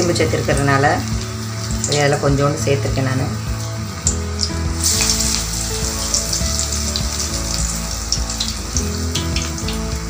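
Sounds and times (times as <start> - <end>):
frying crackling hiss: 0.0 - 10.0
oil sizzling: 0.0 - 10.0.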